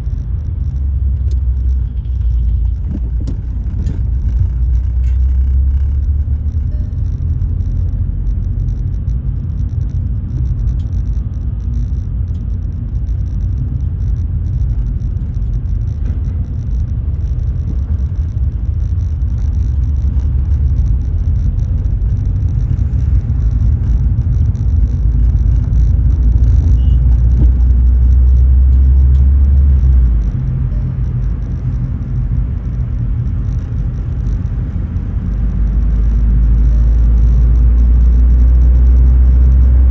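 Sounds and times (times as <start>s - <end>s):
car cabin rumble: 0.0s - 39.9s.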